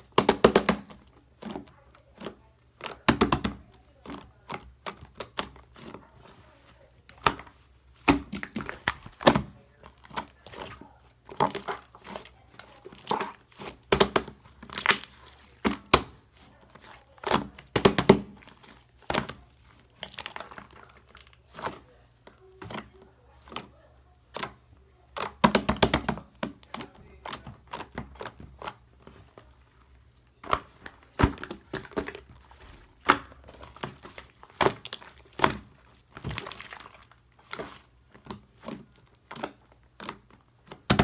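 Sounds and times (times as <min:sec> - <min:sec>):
slime kneaded by hand: 0:00.0 - 0:41.0.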